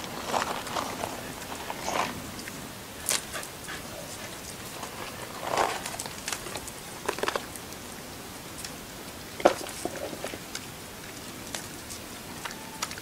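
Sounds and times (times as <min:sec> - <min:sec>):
dogs sniffing and eating: 0:00.0 - 0:13.0.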